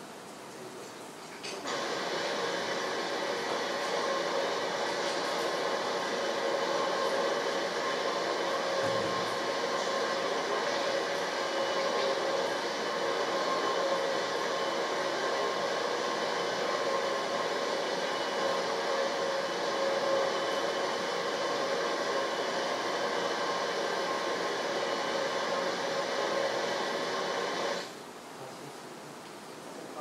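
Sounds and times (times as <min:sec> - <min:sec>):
machine whirring: 0:01.5 - 0:28.2.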